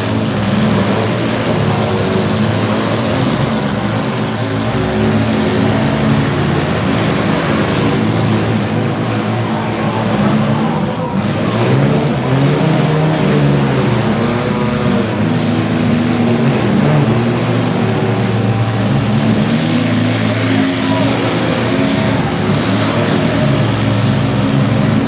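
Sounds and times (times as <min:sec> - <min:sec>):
car engines revving loudly: 0:00.0 - 0:25.0.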